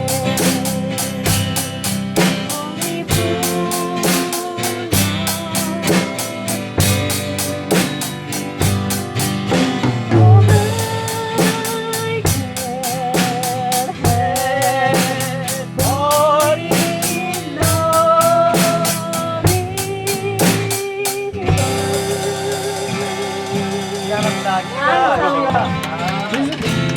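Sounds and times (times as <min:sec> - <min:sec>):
steady drum beat: 0:00.0 - 0:26.9.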